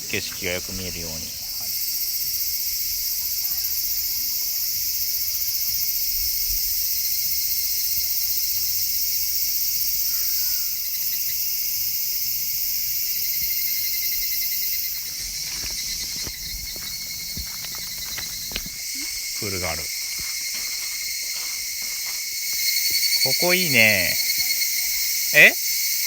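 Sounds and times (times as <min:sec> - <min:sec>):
insects shrilling: 0:00.0 - 0:26.0.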